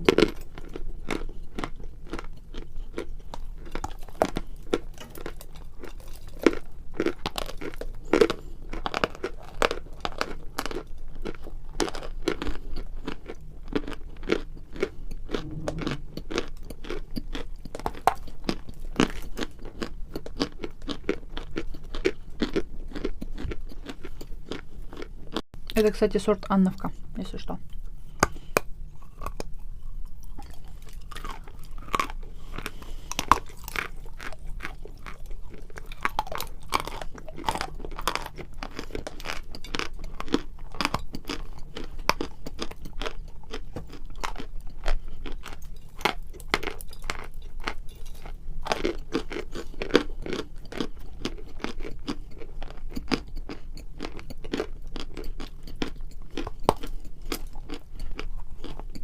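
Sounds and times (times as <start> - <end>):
person chewing chalk: 0.0 - 25.8, 27.7 - 59.0.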